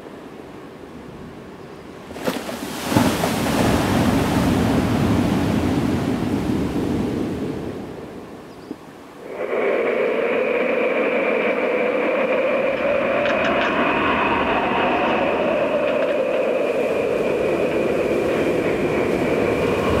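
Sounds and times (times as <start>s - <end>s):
strong wind on microphone: 2.6s - 20.0s.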